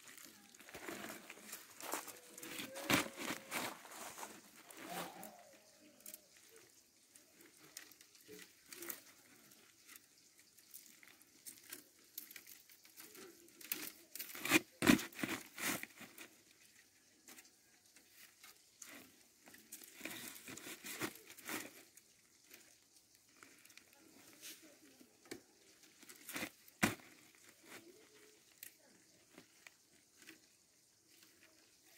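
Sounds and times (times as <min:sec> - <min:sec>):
cane strips rustling and clicking: 0:00.0 - 0:31.9.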